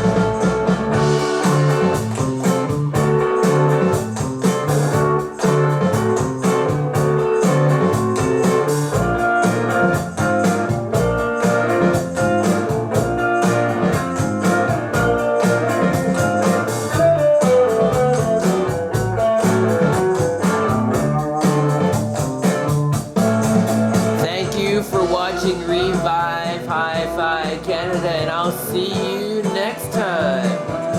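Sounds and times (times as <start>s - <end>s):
blues-rock music through speakers: 0.0s - 30.9s.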